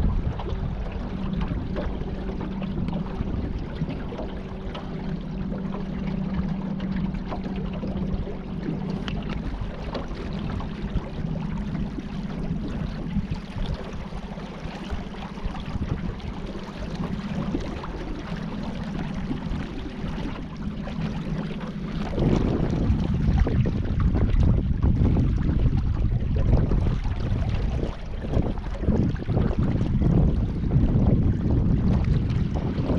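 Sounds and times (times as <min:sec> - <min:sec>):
steady low hum: 0:00.0 - 0:32.9
water splashing against boat: 0:00.0 - 0:32.9
wind buffeting microphone: 0:00.0 - 0:32.9.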